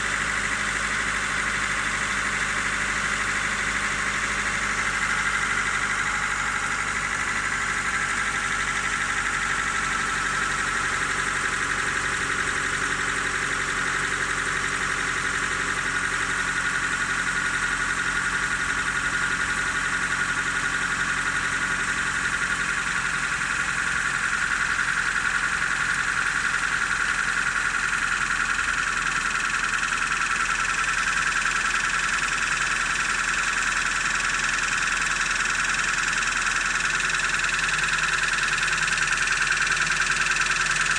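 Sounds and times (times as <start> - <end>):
car engine idling: 0.0 - 40.9
rapid engine knock: 0.1 - 40.9.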